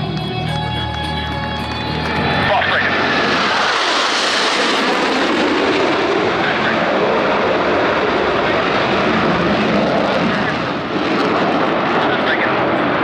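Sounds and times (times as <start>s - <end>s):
jets passing in flight: 0.0s - 13.0s.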